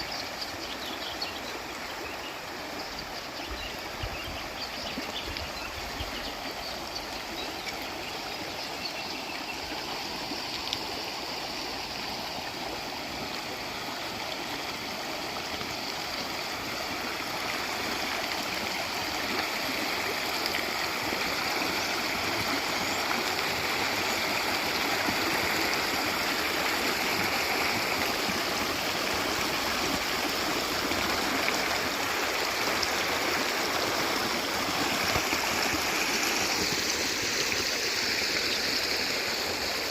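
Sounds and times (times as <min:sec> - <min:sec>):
stream water rushing and babbling: 0:00.0 - 0:39.9.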